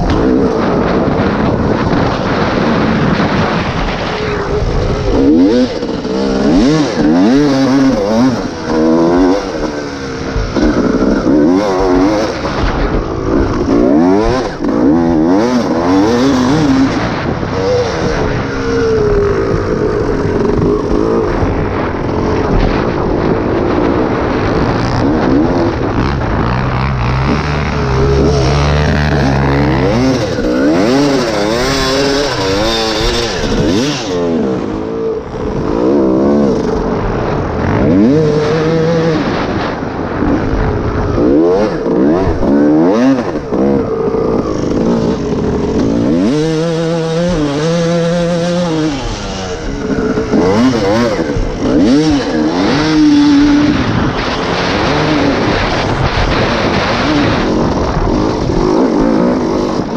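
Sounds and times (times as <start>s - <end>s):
motocross bike engine revving: 0.0s - 59.9s
wind rush: 0.0s - 59.9s.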